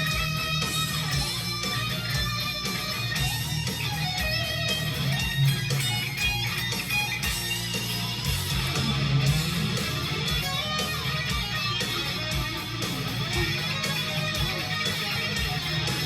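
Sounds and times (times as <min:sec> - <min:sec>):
electric guitar: 0:00.0 - 0:16.0
hard rock band: 0:00.0 - 0:16.0.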